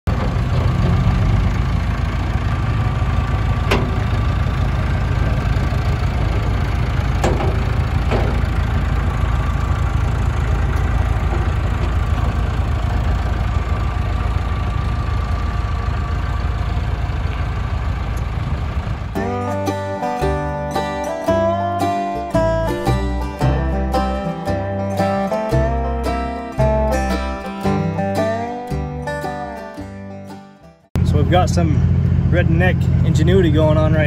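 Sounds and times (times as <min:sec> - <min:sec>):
vehicle engine running: 0:00.0 - 0:30.4, 0:31.0 - 0:34.0.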